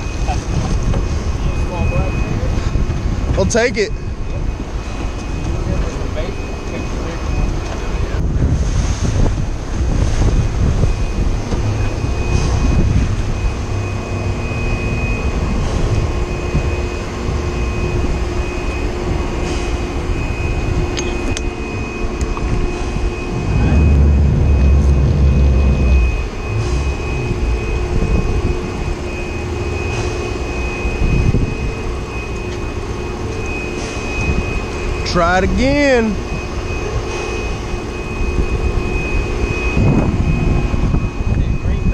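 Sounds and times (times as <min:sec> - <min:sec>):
wind buffeting microphone: 0:00.0 - 0:35.0, 0:36.2 - 0:41.9
boat engines running: 0:00.0 - 0:41.9.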